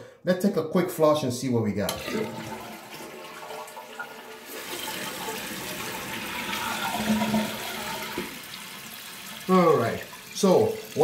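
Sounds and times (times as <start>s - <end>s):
fill valve refilling tank: 1.9s - 11.0s
toilet tank water rushing: 1.9s - 11.0s.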